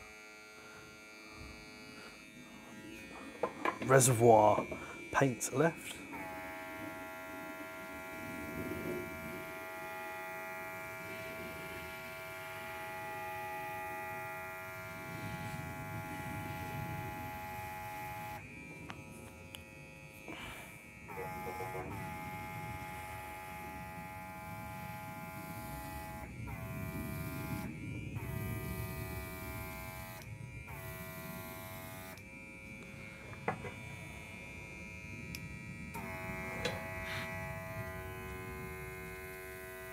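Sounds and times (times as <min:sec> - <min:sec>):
airbrush compressor buzzing: 0:00.0 - 0:39.9.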